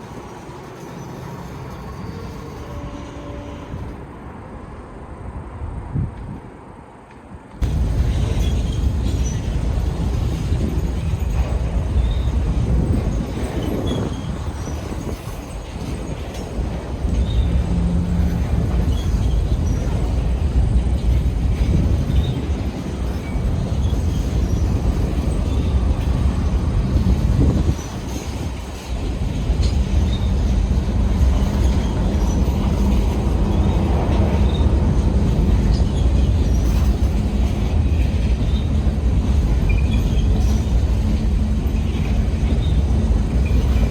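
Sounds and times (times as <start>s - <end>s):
freight train rolling on rails: 0.0s - 43.9s.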